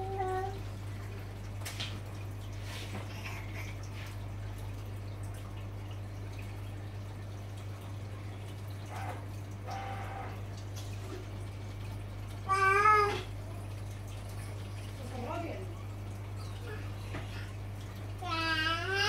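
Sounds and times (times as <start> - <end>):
pump humming: 0.0 - 19.0
water trickling and dripping: 0.0 - 19.0.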